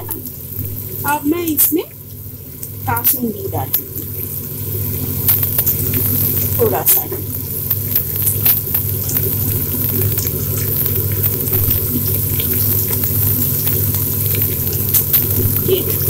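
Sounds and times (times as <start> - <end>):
prawns sizzling in a pan: 0.0 - 16.0
steady low hum: 0.0 - 16.0.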